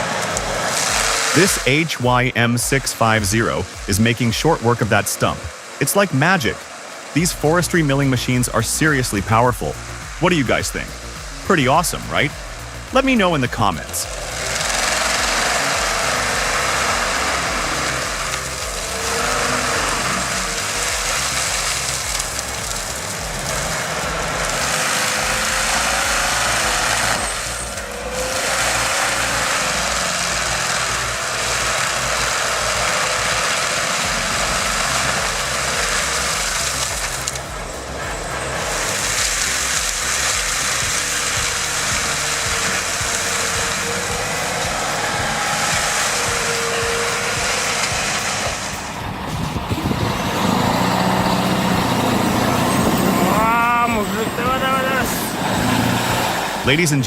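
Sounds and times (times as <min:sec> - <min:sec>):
heavy machinery running: 0:00.0 - 0:57.0.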